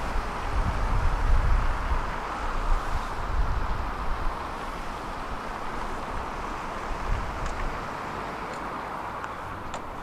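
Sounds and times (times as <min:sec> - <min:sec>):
road traffic hum: 0:00.0 - 0:10.0.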